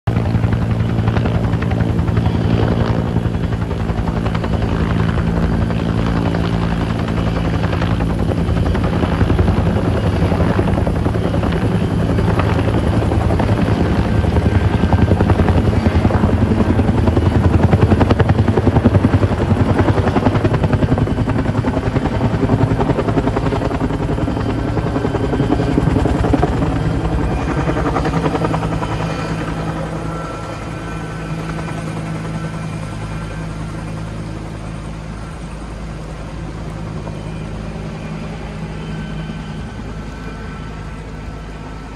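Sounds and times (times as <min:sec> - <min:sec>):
helicopter rotor beat: 0:00.0 - 0:41.9.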